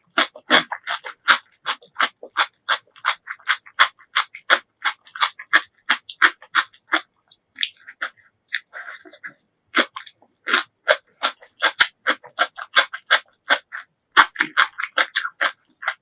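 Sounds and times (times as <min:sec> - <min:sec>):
wet crunchy chewing: 0:00.0 - 0:16.0.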